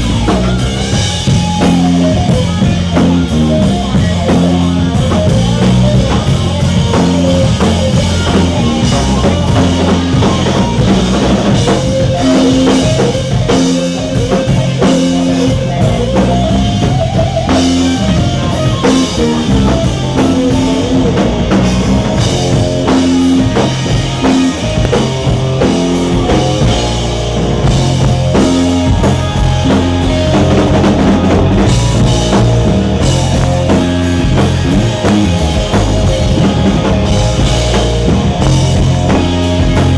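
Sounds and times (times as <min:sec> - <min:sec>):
bass line: 0:00.0 - 0:39.9
drum kit beat: 0:00.0 - 0:39.9
electric guitar: 0:00.0 - 0:39.9.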